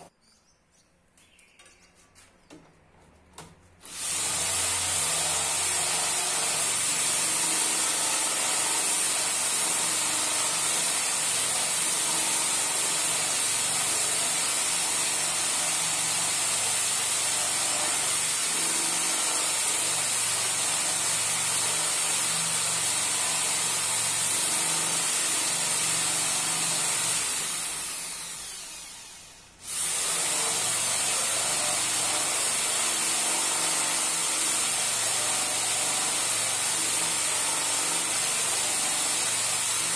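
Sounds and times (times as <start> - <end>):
electric drill running: 3.8 - 39.9.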